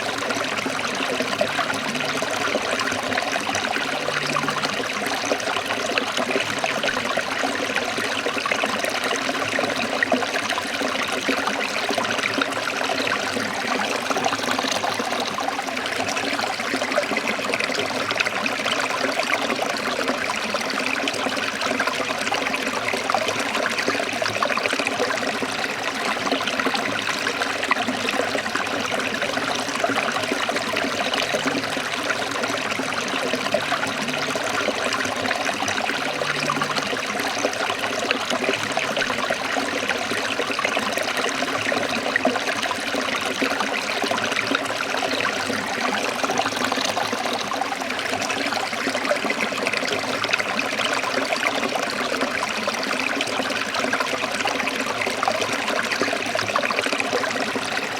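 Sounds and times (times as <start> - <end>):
stream trickling over rocks: 0.0 - 57.9.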